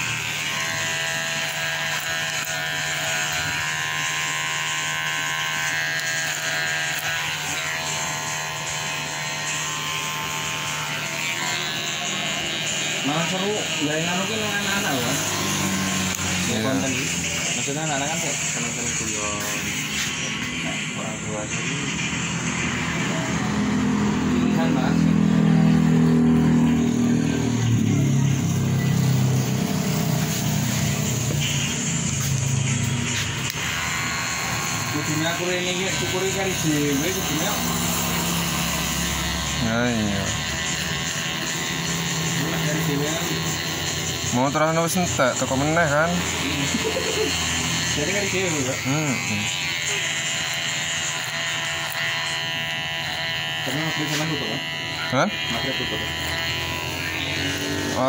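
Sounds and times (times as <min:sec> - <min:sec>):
electric hair clippers buzzing: 0:00.0 - 0:58.0
motor running: 0:00.0 - 0:58.0.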